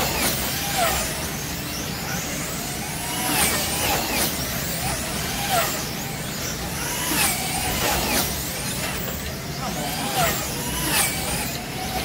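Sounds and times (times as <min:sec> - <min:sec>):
slot car motors whining: 0:00.0 - 0:12.0.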